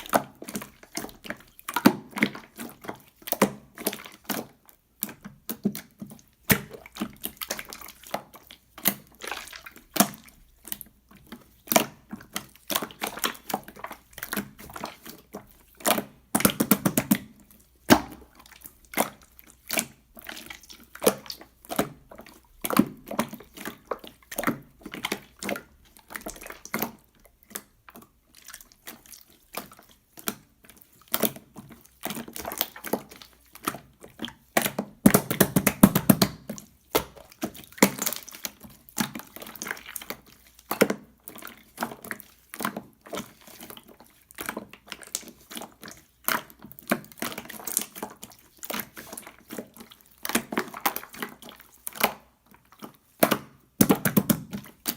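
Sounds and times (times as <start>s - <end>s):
slime squishing wet clicks: 0.0s - 43.7s, 44.4s - 54.9s.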